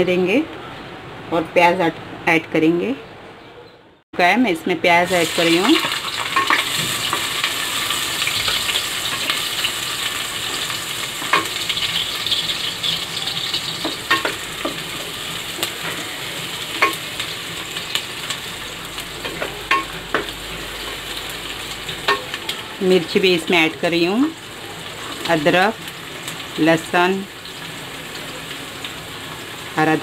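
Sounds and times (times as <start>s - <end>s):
onions sizzling in oil: 5.0s - 30.0s.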